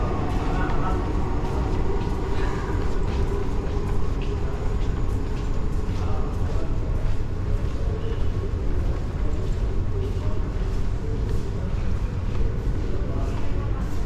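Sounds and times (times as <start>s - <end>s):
faint voices: 0.0s - 14.0s
walking footsteps: 0.0s - 14.0s.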